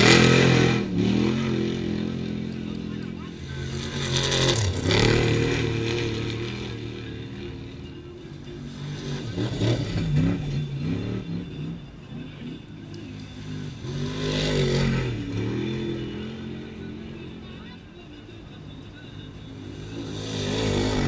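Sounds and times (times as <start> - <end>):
race trucks passing at speed: 0.0 - 21.0.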